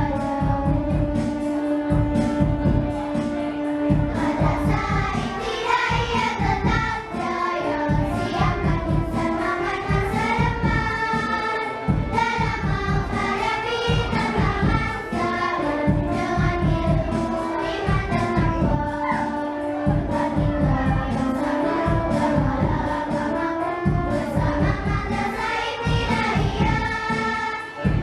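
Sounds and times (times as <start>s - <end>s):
children's choir singing: 0.0s - 28.0s
instrumental accompaniment with beat: 0.0s - 28.0s.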